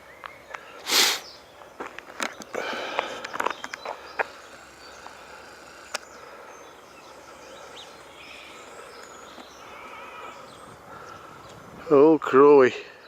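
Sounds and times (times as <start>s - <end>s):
small birds chirping: 0.0s - 13.0s
steady background hiss: 0.0s - 13.0s.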